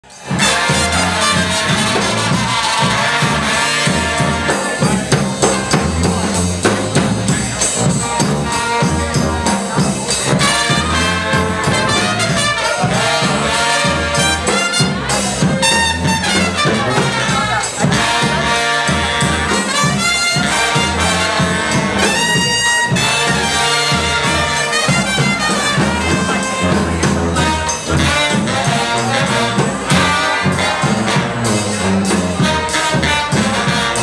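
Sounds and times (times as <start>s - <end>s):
bass drum and drum kit beat: 0.0s - 34.0s
brass band playing: 0.0s - 34.0s
sousaphone bass line: 0.2s - 34.0s.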